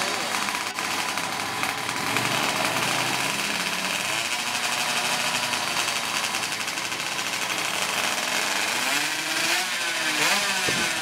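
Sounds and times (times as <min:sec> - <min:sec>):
two-stroke engines buzzing: 0:00.0 - 0:11.0.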